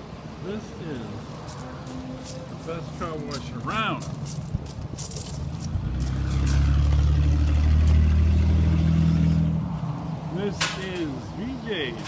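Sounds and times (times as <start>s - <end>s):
car engine humming: 0.0s - 11.9s.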